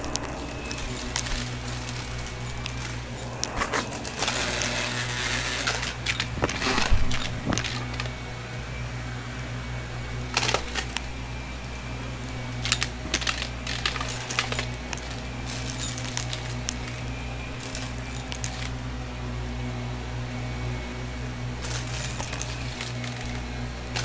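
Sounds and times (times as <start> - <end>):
debris clicking and rattling: 0.0 - 8.2, 10.2 - 18.9, 21.6 - 24.0
vacuum cleaner running: 0.0 - 24.0.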